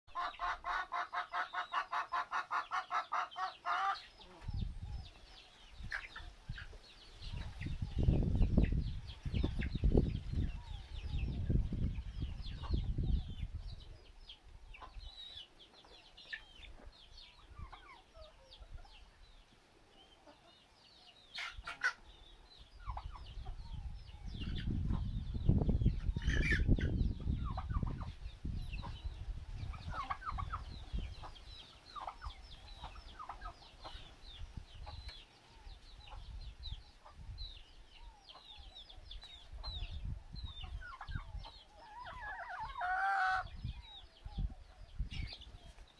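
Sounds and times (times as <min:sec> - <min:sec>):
chickens clucking and calling: 0:00.1 - 0:45.9.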